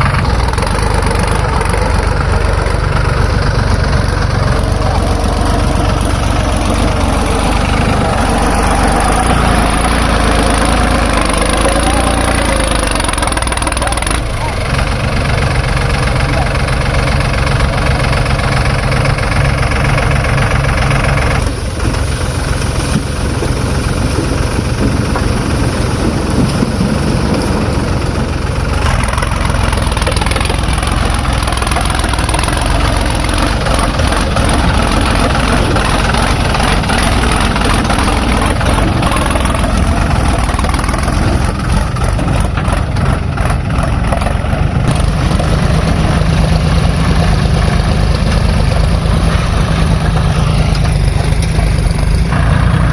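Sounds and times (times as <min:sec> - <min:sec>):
heavy diesel engine under load: 0:00.0 - 0:52.9.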